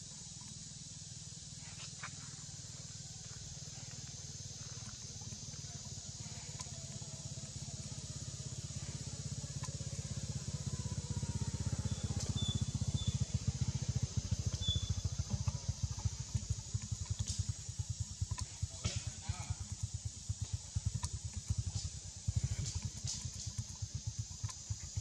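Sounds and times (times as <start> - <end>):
high insect hiss: 0.0 - 25.0
pulsing engine rumble: 0.0 - 25.0.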